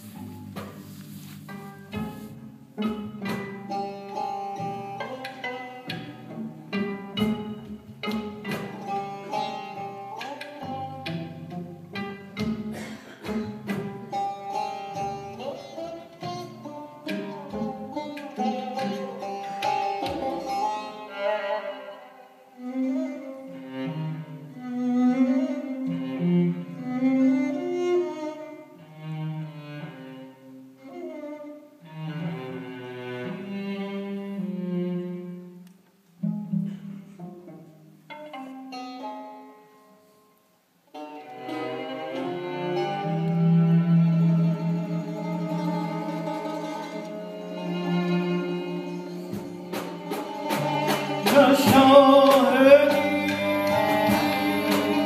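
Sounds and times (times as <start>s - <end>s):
bowed fiddle held notes: 0.0s - 55.0s.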